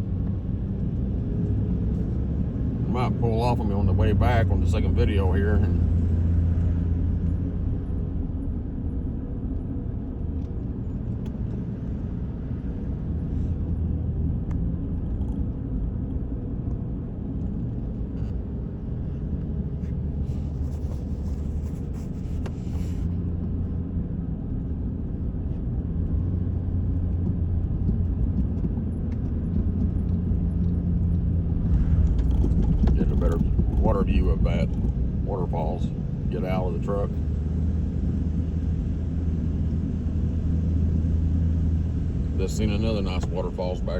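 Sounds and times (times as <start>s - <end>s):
road rumble: 0.0s - 43.9s
truck engine hum: 0.0s - 43.9s.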